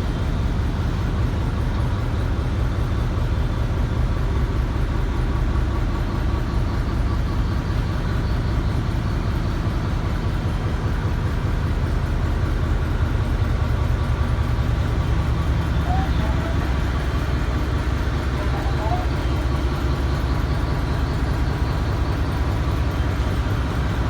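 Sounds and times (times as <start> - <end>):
engine-room machinery drone: 0.0 - 24.0.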